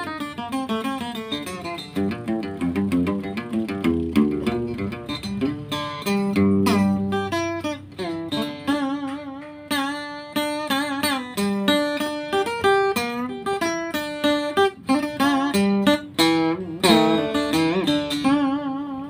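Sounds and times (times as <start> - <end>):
plucked acoustic guitar melody: 0.0 - 19.0.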